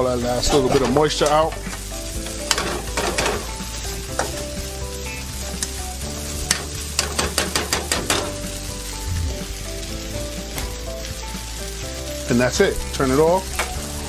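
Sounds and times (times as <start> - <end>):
rice sizzling in a wok: 0.0 - 14.0.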